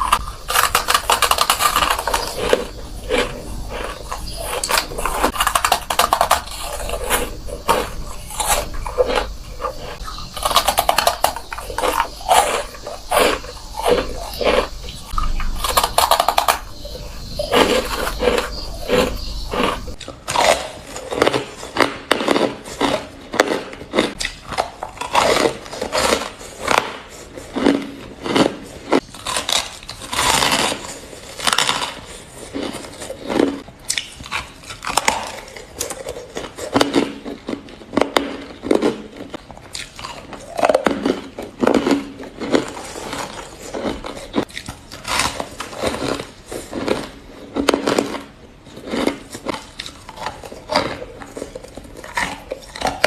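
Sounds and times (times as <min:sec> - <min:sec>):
ice crunching between teeth: 0:00.0 - 0:53.0.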